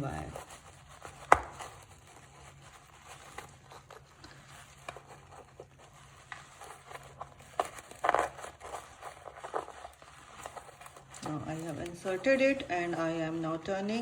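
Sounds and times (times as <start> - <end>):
crinkling rustle: 0.0 - 14.0
wire rustling in coir sheet: 0.0 - 14.0.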